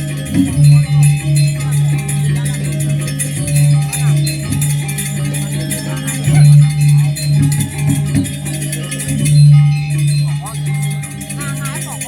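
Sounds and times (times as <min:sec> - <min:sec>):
rapid high metallic clashing: 0:00.0 - 0:12.0.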